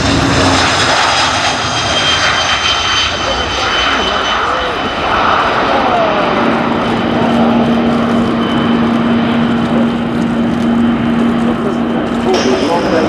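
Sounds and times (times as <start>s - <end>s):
jet engines at take-off power: 0.0s - 13.0s.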